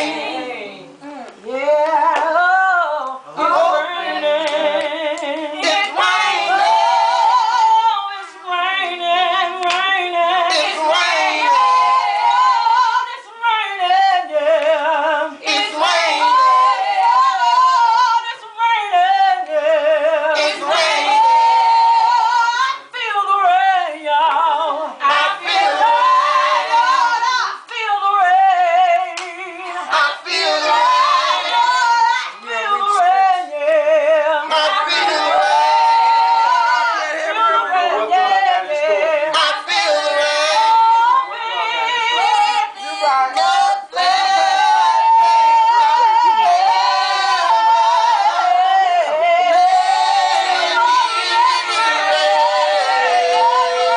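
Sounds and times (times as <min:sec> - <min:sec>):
woman singing gospel: 0:00.0 - 0:53.9.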